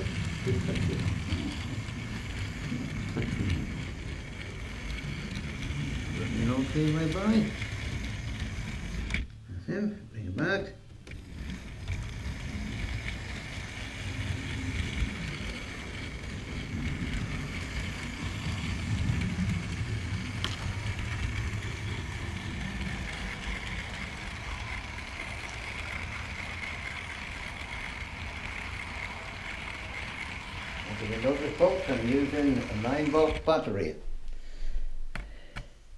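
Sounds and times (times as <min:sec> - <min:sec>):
model train wheels rumbling: 0:00.0 - 0:34.0.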